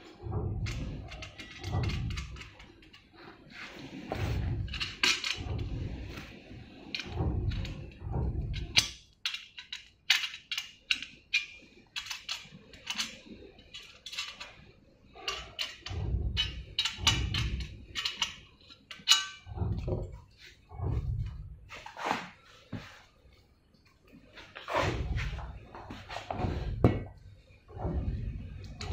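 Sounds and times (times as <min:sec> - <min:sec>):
low rumbling handling noise: 0:00.0 - 0:10.1, 0:11.1 - 0:28.9.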